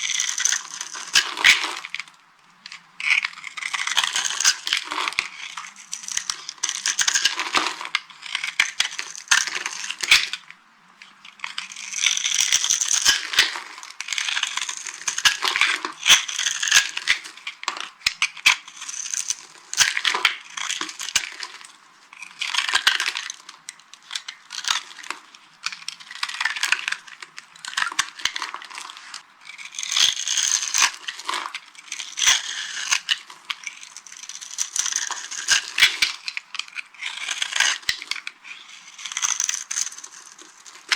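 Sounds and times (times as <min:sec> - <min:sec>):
soap crunching by hand: 0:02.7 - 0:10.5, 0:11.4 - 0:21.6, 0:24.1 - 0:40.9.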